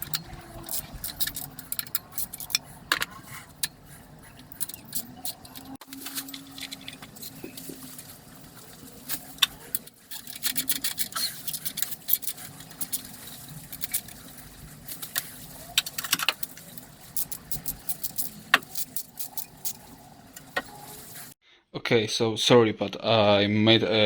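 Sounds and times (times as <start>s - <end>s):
metal tools clicking and clinking: 0.0s - 20.9s.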